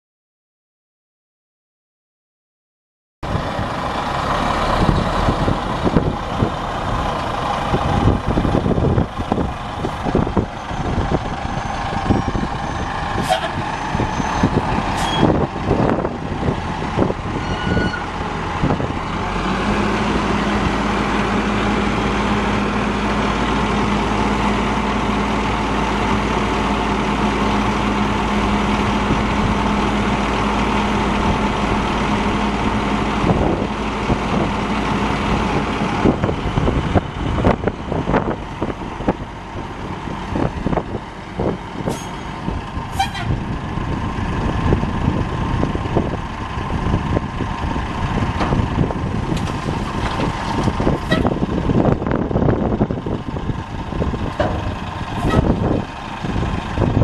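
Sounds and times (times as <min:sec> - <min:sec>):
diesel engine running: 0:03.2 - 0:57.0
engine knocks and clatter: 0:03.2 - 0:57.0.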